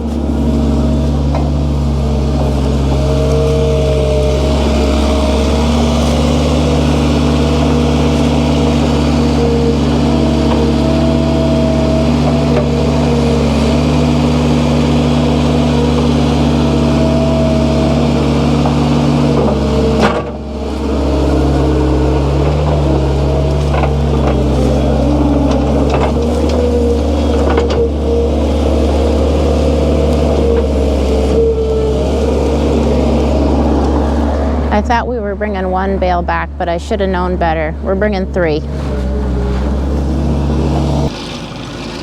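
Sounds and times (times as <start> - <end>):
skid steer engine running: 0.0 - 42.0.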